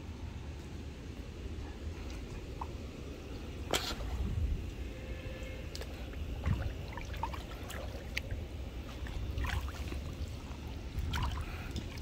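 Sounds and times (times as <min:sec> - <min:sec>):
low uneven rumble: 0:00.0 - 0:12.0
pool water splashing: 0:01.4 - 0:12.0.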